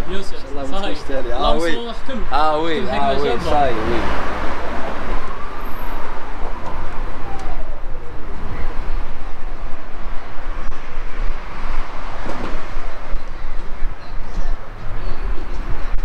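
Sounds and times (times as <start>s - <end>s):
road traffic with heavy trucks: 0.0s - 16.0s
low vehicle rumble: 1.2s - 16.0s.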